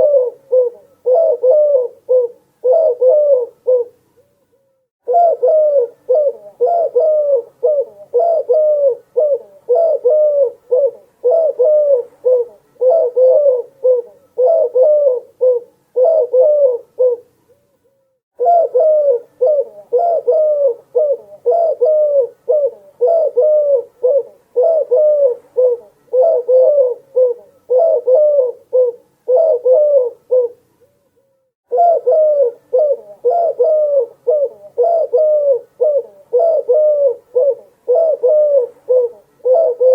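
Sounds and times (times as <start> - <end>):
doves cooing: 0.0 - 4.3, 5.0 - 17.3, 18.4 - 30.6, 31.7 - 39.9.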